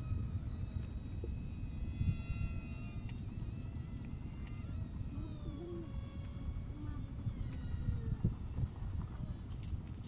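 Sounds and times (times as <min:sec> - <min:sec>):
model plane motor whining: 0:00.0 - 0:10.0
wind rumble on microphone: 0:00.0 - 0:10.0.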